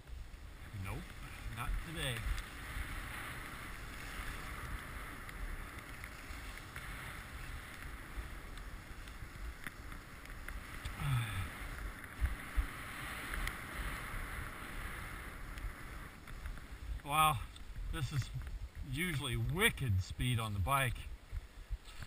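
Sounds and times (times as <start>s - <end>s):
skis sliding over snow: 0.0s - 22.0s
skis thumping on bumps: 0.0s - 22.0s
wind buffeting microphone: 0.0s - 22.0s.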